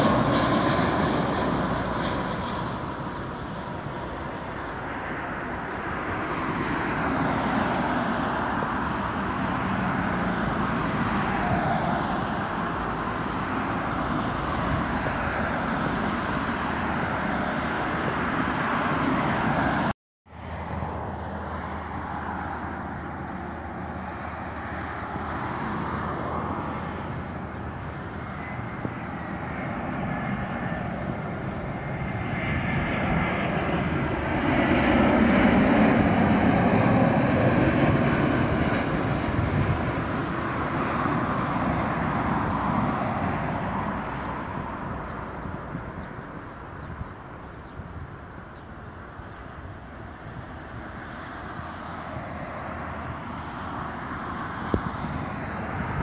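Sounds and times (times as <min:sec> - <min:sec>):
jet engine noise: 0:00.0 - 0:56.0.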